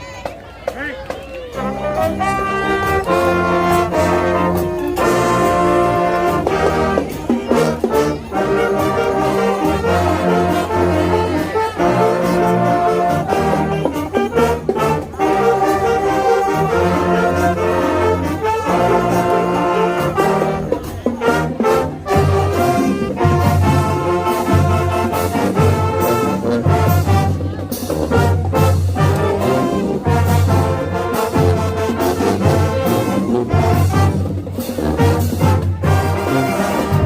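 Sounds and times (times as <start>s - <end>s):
marching band brass chords: 0.0s - 37.0s.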